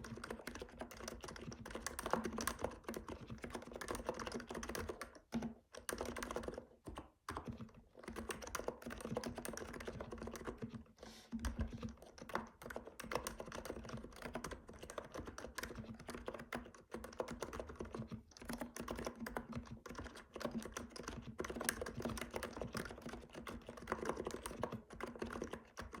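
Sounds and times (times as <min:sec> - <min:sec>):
keyboard typing clacks: 0:00.0 - 0:26.0.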